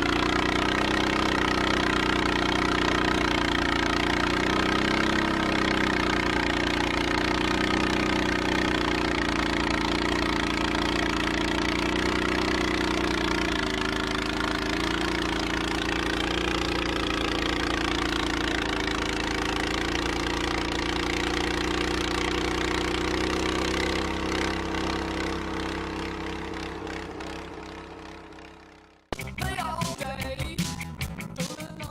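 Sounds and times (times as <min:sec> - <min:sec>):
snowblower engine running: 0:00.0 - 0:29.7.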